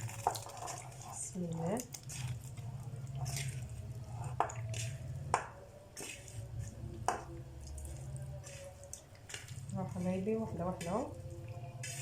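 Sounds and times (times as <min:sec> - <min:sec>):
low steady hum: 0:00.0 - 0:12.0
wet squishing pasta in sauce: 0:00.0 - 0:12.0.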